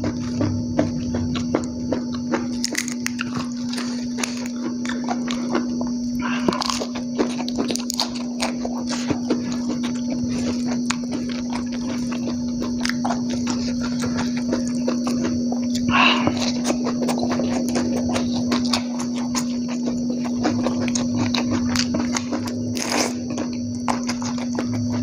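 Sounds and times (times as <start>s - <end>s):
chewing and lip-smacking: 0.0s - 25.0s
steady hum: 0.0s - 25.0s.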